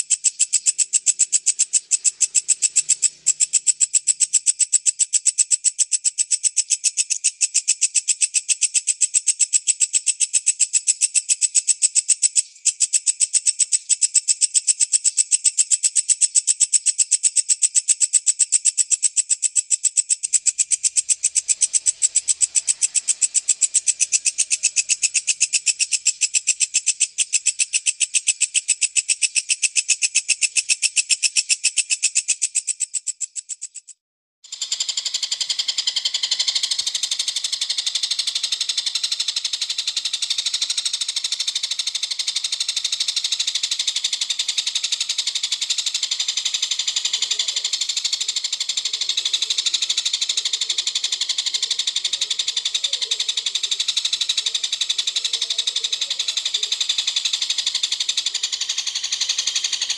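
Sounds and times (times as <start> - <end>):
grasshopper trilling: 0.0 - 59.9.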